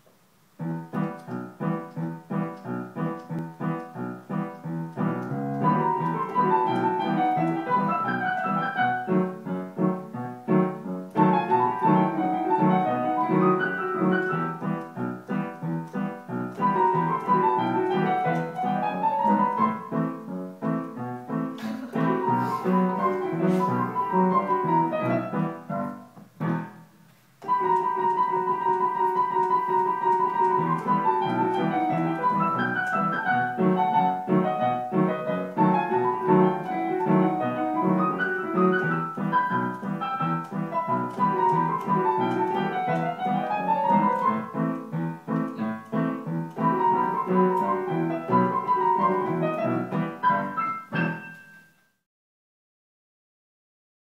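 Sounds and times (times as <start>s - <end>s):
piano duet: 0.0s - 52.0s.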